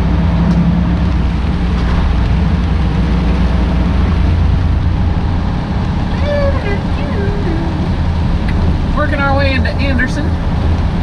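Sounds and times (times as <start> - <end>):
diesel engine drone: 0.0 - 11.0
tyre and road noise: 0.0 - 11.0.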